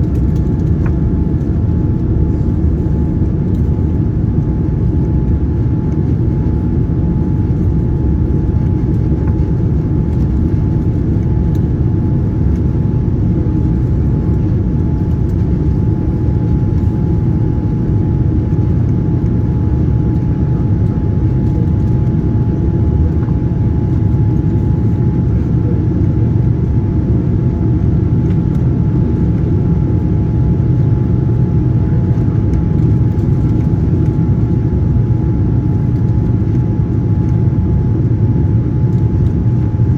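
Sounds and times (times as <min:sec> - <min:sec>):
airliner engine and airflow rumble: 0:00.0 - 0:39.9
constant high whine: 0:00.0 - 0:39.9.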